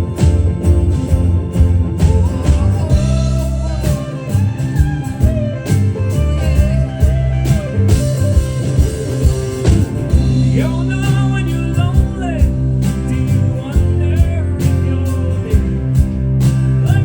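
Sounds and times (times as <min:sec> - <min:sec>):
bending guitar melody: 0:00.0 - 0:17.0
live band playing: 0:00.0 - 0:17.0.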